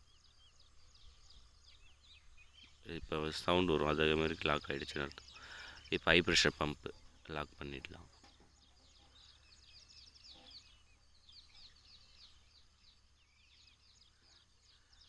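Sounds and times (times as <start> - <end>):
small birds chirping rapidly: 0.0 - 15.0.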